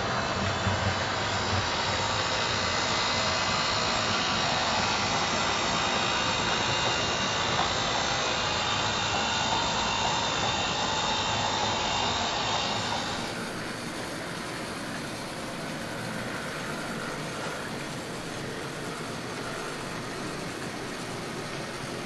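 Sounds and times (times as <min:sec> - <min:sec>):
faint whine: 0:00.0 - 0:22.0
model train whirring rumble: 0:00.0 - 0:22.0.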